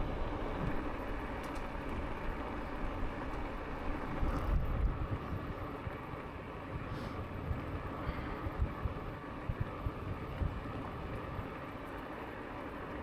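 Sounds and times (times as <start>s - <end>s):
wind buffeting microphone: 0.0s - 11.6s
bike tyres rumbling on path: 0.0s - 13.0s.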